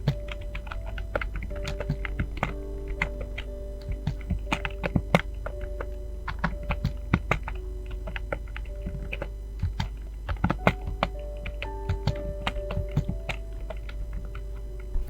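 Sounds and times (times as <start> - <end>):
fast typing on keyboard: 0.0 - 14.8
quiet music with held notes: 0.0 - 15.0.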